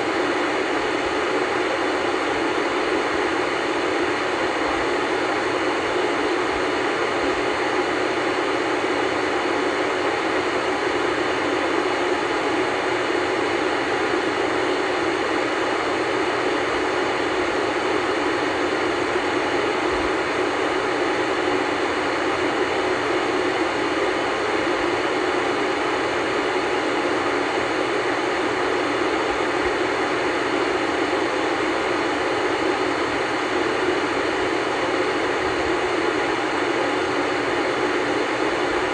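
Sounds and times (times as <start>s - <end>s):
tv static hiss: 0.0s - 38.9s.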